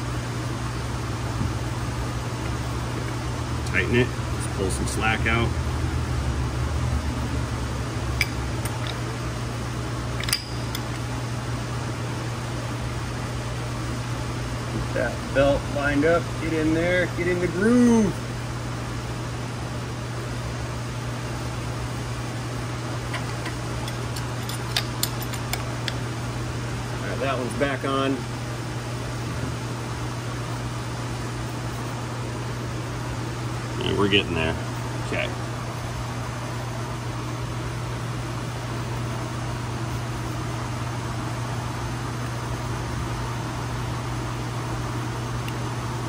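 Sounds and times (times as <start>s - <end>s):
shop fan humming: 0.0s - 46.0s.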